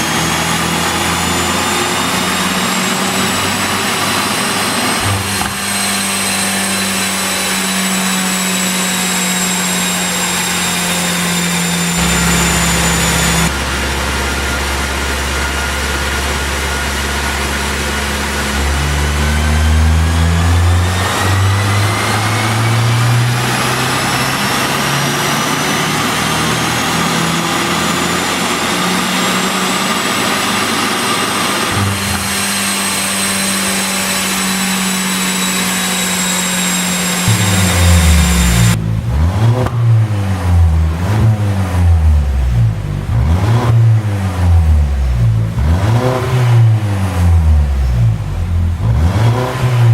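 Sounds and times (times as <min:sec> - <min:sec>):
car engine on a dyno: 0:00.0 - 0:49.9.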